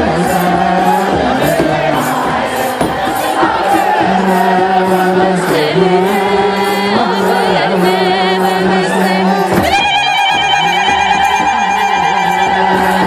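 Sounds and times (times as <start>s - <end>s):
crowd singing a hymn: 0.0s - 13.0s.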